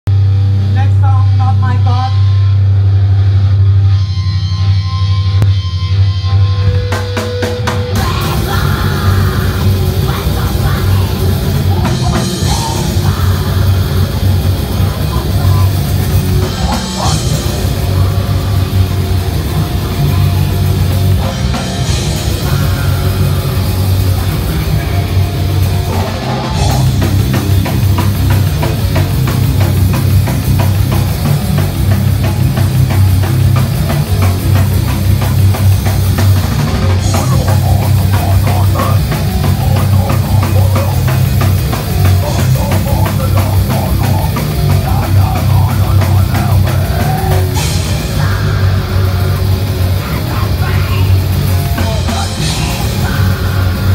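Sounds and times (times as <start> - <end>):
bass guitar: 0.0 - 53.9
distorted electric guitars: 0.0 - 53.9
drum kit fast beat: 6.6 - 53.9.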